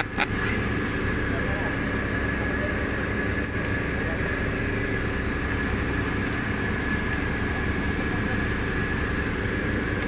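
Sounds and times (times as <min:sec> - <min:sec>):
boat engine drone: 0:00.0 - 0:10.0.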